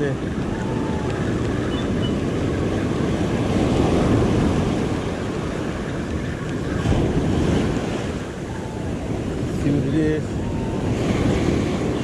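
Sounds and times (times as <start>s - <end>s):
ocean surf breaking: 0.0s - 12.0s
wind noise on microphone: 0.0s - 12.0s.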